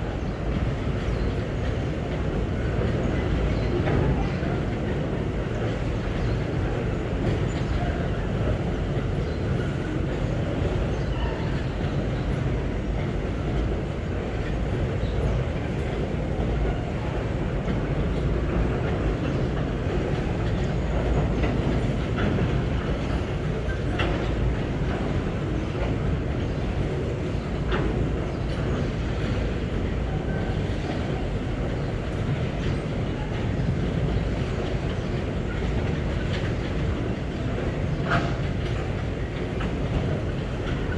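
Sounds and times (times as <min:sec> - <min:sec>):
freight train rolling past: 0:00.0 - 0:40.9
wheels clacking over rail: 0:00.0 - 0:40.9.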